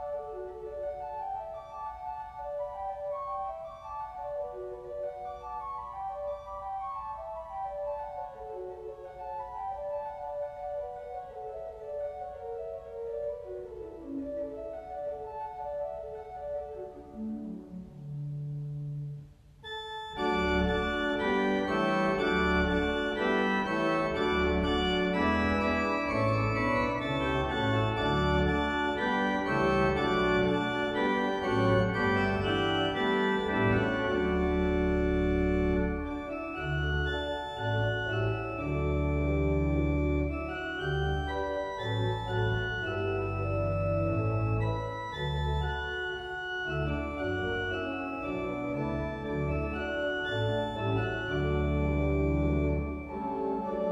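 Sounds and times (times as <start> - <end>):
organ chords: 0.0 - 53.9.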